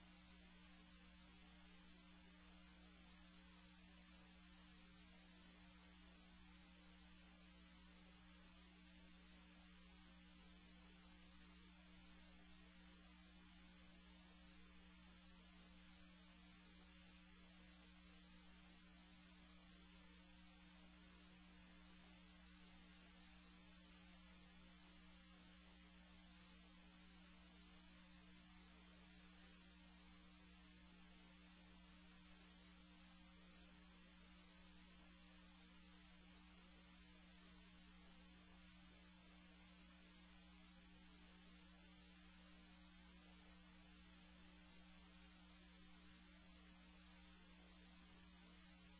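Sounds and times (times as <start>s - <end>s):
faint electrical hum with hiss: 0.0s - 48.9s.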